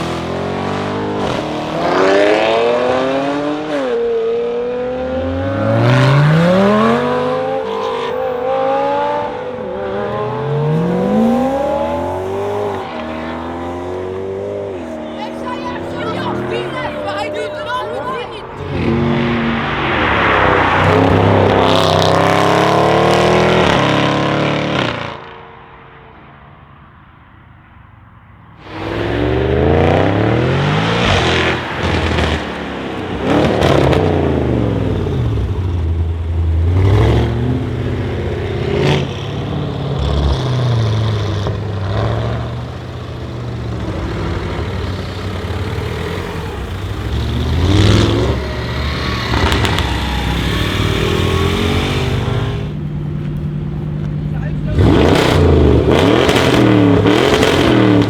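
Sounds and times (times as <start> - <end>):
exhaust crackles: 0.0 - 25.0, 28.6 - 58.0
car engine accelerating hard: 0.0 - 26.2, 28.6 - 58.0.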